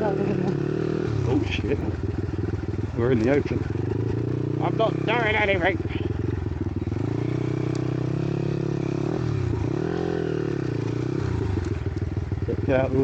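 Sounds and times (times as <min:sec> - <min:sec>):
small motorbike engine revving: 0:00.0 - 0:13.0.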